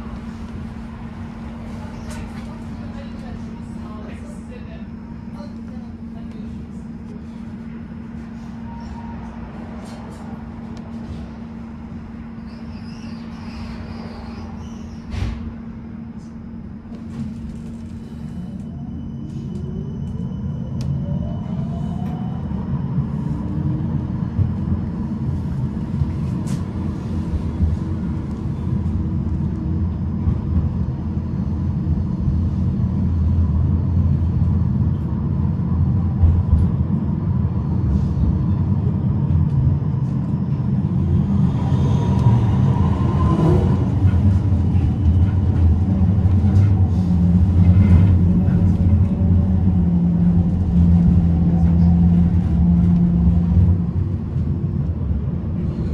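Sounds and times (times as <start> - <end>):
tram motor whine: 0.0 - 55.9
wheels rumbling on rails: 0.0 - 55.9.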